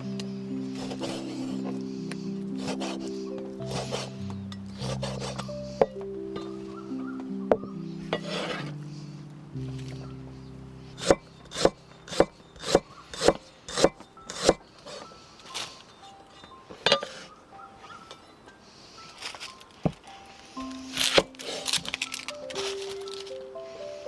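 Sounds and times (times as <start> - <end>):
soft background music: 0.0 - 24.0.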